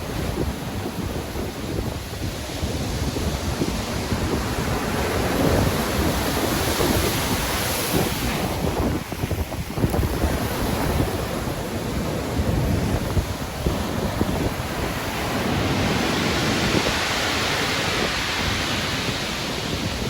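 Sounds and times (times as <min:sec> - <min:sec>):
strong wind: 0:00.0 - 0:20.0
waves breaking: 0:00.0 - 0:20.0.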